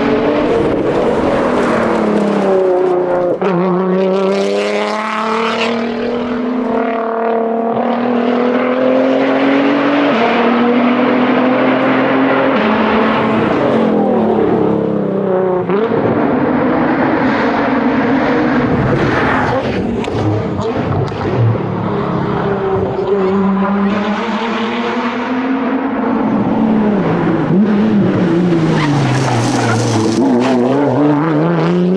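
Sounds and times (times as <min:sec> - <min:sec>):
car engine accelerating hard: 0:00.0 - 0:31.9.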